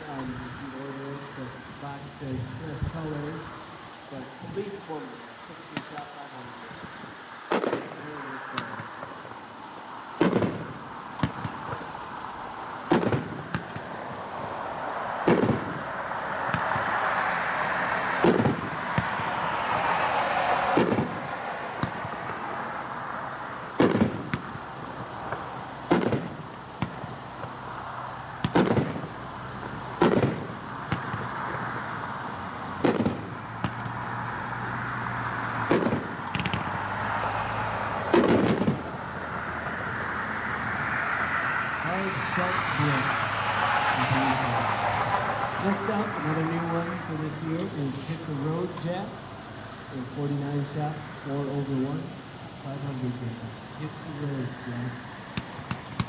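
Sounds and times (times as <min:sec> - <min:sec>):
distant firework booms: 0:00.0 - 0:51.6, 0:53.0 - 0:56.0
steady rushing noise: 0:00.0 - 0:56.0.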